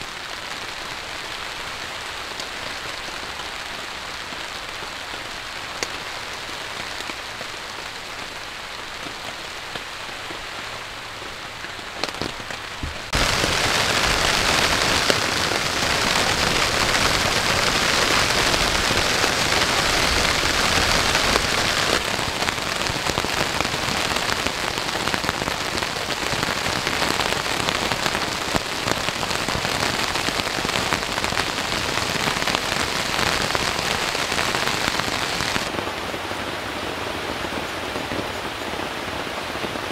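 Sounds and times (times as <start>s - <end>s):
heavy rain falling: 0.0s - 39.9s
sharp raindrops: 0.0s - 39.9s.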